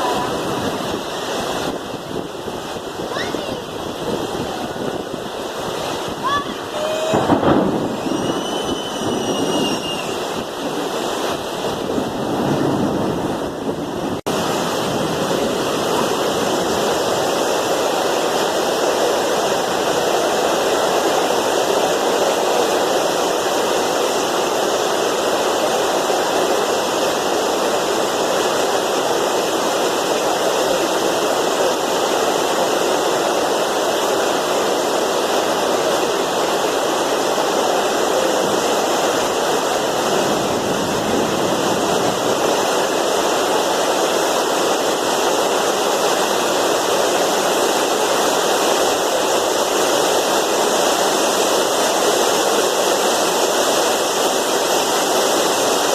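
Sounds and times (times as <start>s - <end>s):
heavy rain with hail: 0.0s - 55.9s.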